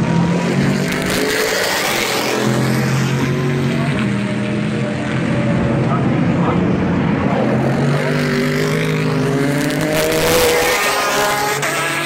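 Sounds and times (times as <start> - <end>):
racing car engines: 0.0 - 12.0
racing car passing close: 0.0 - 12.0.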